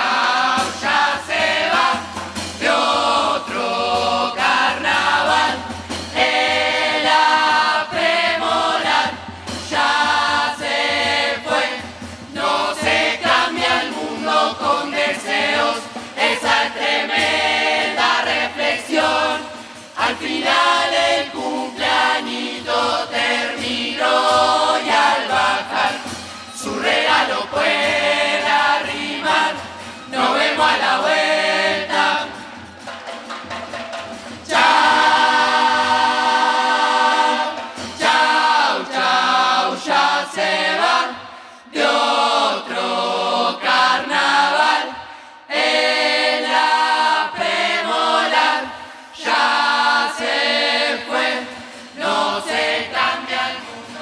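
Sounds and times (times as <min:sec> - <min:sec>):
chorus singing in harmony: 0:00.0 - 0:54.0.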